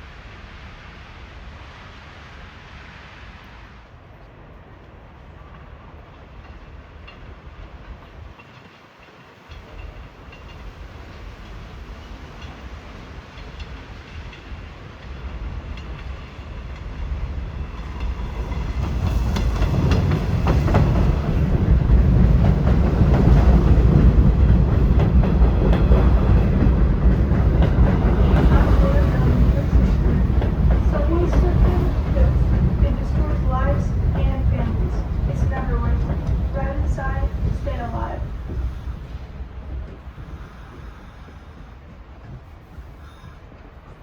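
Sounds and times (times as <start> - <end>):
subway train rumble: 0.0 - 44.0
wheels clicking over rail joints: 6.1 - 44.0.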